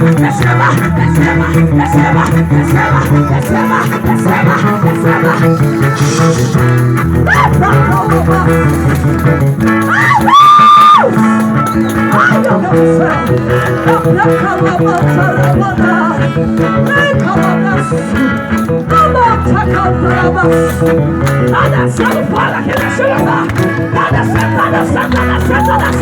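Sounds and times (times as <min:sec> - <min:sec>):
guitar: 0:00.0 - 0:26.0
person singing: 0:00.0 - 0:26.0.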